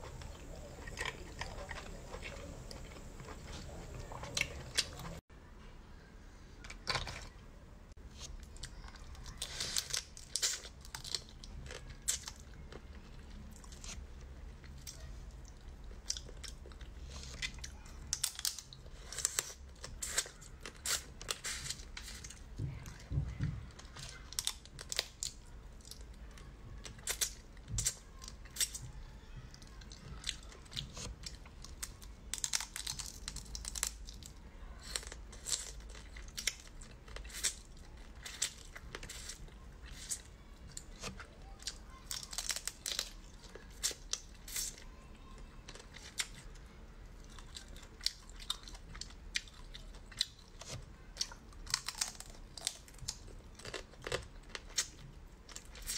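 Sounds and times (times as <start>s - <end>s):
chewing and crunching shell: 0.0s - 5.3s, 8.2s - 55.9s.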